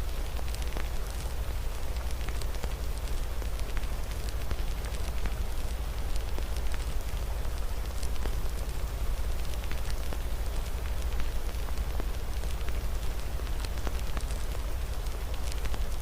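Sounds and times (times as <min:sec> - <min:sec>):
fire crackling and popping: 0:00.0 - 0:16.0
rain hiss: 0:00.0 - 0:16.0.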